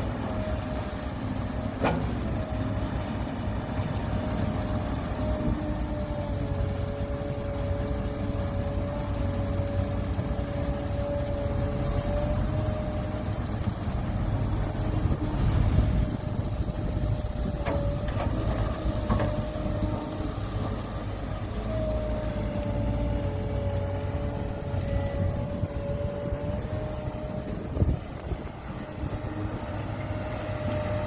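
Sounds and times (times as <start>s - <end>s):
heavy diesel machinery rumbling: 0.0s - 31.0s.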